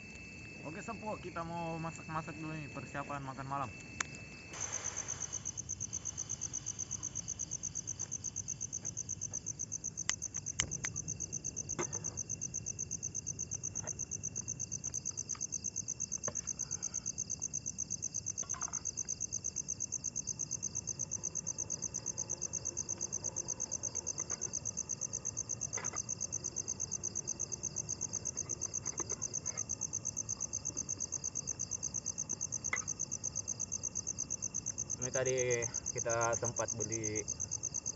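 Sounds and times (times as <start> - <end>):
crickets trilling: 0.0 - 37.9
thin steady insect tone: 0.0 - 37.9.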